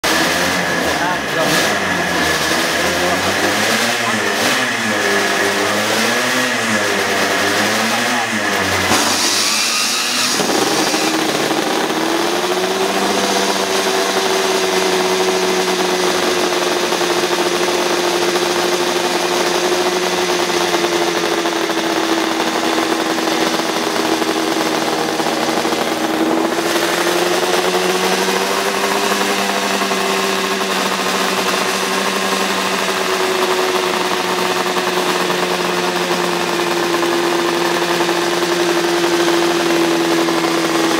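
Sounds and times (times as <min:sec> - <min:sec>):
two-stroke engine revving and idling: 0:00.0 - 0:40.9.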